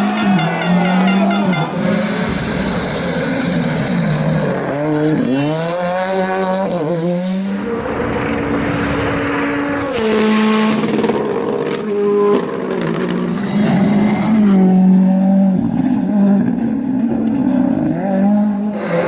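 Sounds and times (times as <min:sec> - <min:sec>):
rally car engine revving hard: 0:00.0 - 0:19.0.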